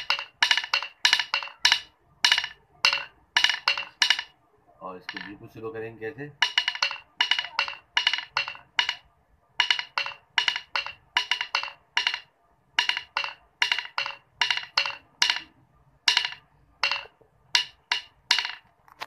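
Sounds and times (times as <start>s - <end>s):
drumsticks tapping on stone floor: 0.0s - 5.5s, 6.3s - 19.0s.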